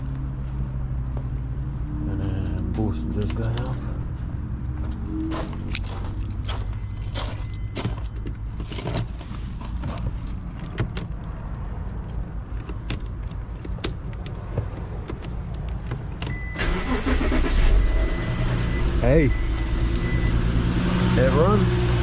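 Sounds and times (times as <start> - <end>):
car engine starting: 1.5 - 22.0.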